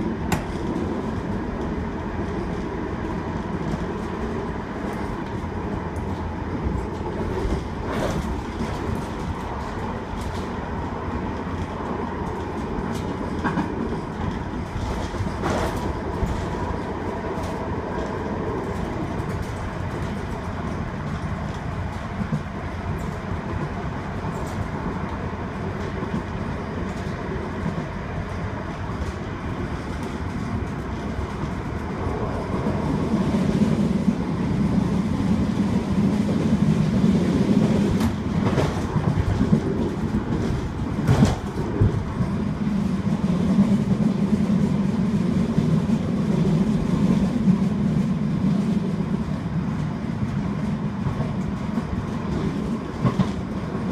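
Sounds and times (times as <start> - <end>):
tram wheels rumbling on rails: 0.0 - 53.9.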